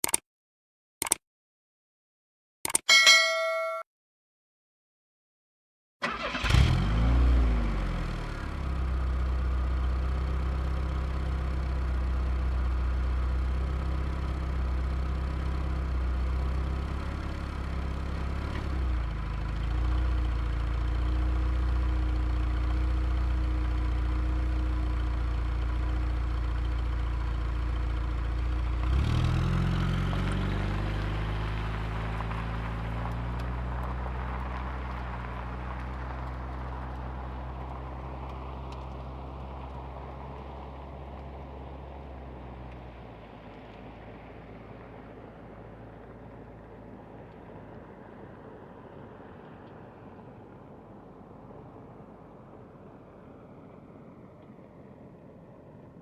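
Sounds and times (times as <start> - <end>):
car engine starting and idling: 6.0 - 56.0.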